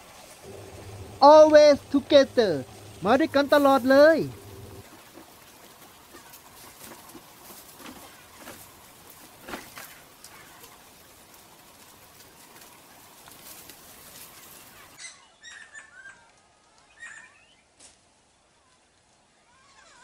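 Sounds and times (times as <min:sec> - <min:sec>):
steady forest hiss: 0:00.0 - 0:15.0, 0:17.6 - 0:19.6.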